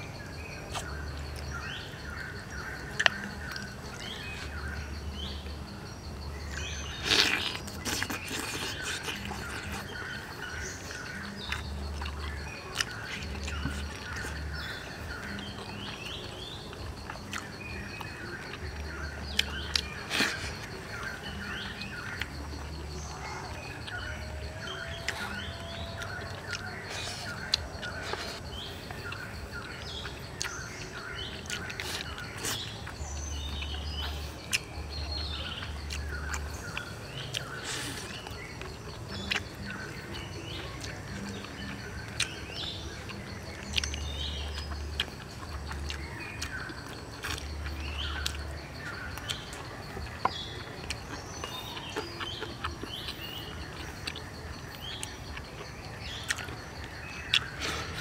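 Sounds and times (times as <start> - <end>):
small birds chirping: 0.0 - 58.0
person eating with hands: 6.4 - 58.0.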